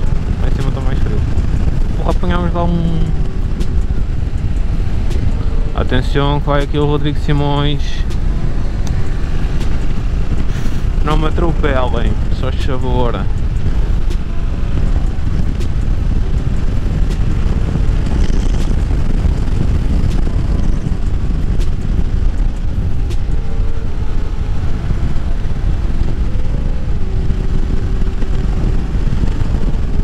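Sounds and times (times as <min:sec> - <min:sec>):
motorcycle engine running: 0:00.0 - 0:30.0
wind rush on microphone: 0:00.0 - 0:30.0.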